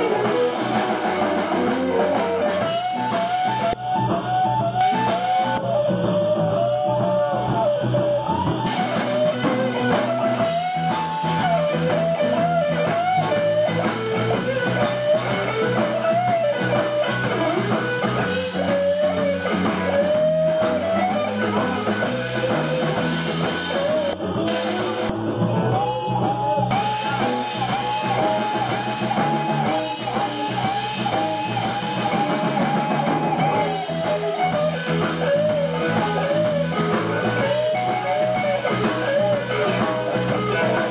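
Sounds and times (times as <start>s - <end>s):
electric blues band playing: 0.0s - 40.9s
guitar bending notes: 0.0s - 40.9s.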